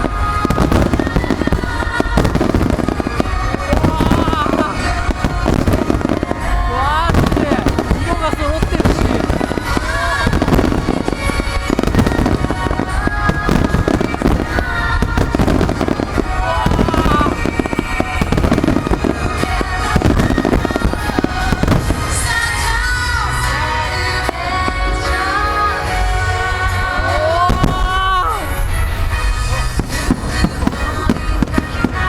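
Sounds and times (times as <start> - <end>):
fireworks bangs and crackles: 0.0 - 32.0
music playing: 0.0 - 32.0.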